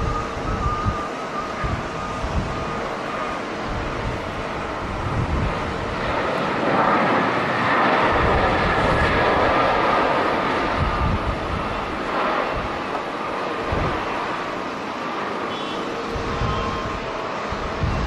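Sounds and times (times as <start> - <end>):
wind buffeting microphone: 0.0 - 14.8, 16.0 - 18.0
jet engines running: 0.0 - 18.0.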